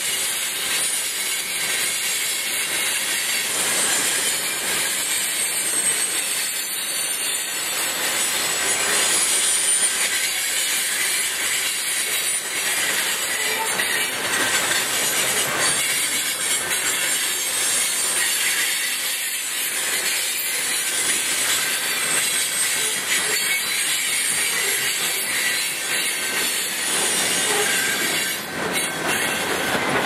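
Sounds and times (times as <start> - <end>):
train wheels rushing on rails: 0.0 - 30.0.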